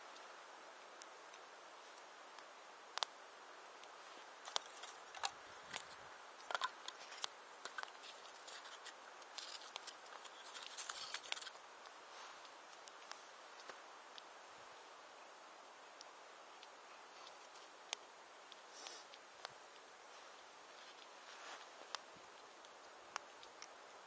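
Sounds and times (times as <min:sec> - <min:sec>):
wood campfire crackling: 0:00.1 - 0:14.6, 0:15.2 - 0:24.0.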